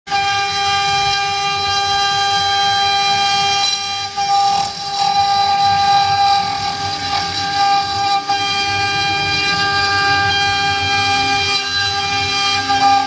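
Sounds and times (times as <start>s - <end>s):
cnc router spindle whine: 0.1s - 13.0s.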